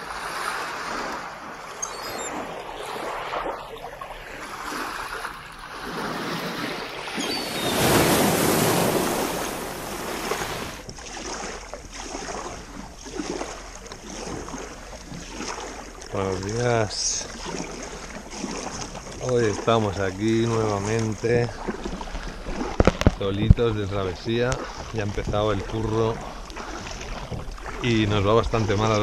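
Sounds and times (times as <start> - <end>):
paddle strokes: 0.0 - 29.0
sea water surging: 0.0 - 29.0
water lapping: 0.0 - 29.0.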